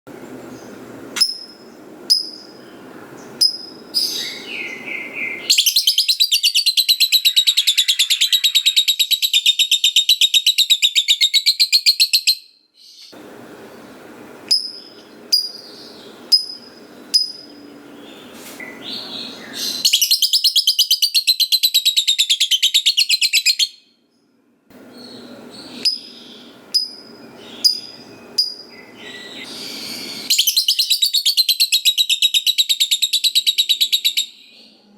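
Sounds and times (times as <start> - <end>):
lovebird high chirps: 0.5 - 13.2, 14.5 - 23.9, 24.9 - 34.7
lovebird chattering trill: 1.2 - 12.4, 14.5 - 23.7, 25.0 - 34.3.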